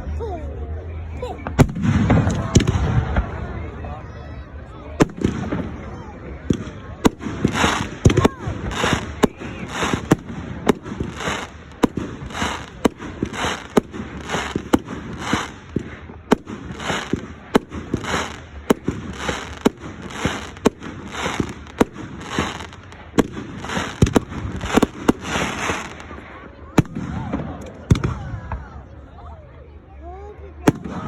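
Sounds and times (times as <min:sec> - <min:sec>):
fireworks bangs: 0:01.4 - 0:03.5, 0:05.0 - 0:28.4.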